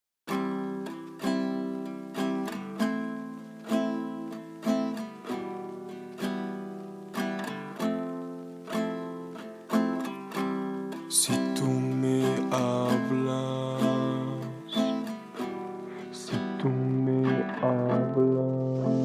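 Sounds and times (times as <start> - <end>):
acoustic guitar strumming chords: 0.3 - 19.0.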